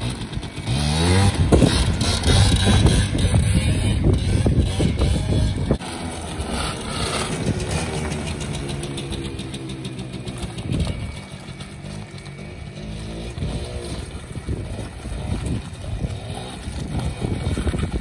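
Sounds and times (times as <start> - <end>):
two-stroke quad engine revving: 0.0 - 18.0.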